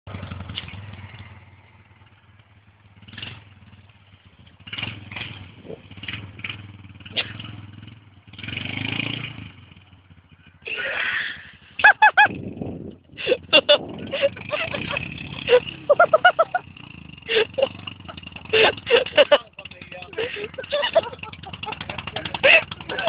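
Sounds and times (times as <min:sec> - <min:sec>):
quad bike engine running: 0:00.1 - 0:23.0.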